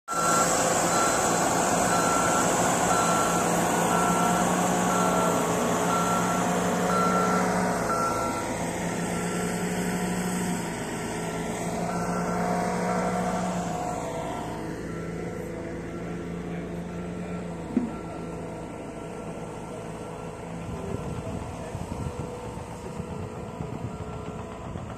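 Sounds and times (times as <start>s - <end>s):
diesel engine running: 0.1s - 24.9s
reversing alarm beeping: 0.1s - 24.9s.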